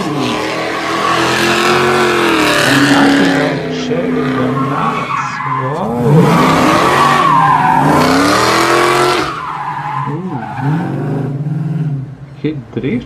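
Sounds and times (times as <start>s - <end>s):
car engine revving: 0.0s - 13.0s
tires screeching: 0.0s - 13.0s.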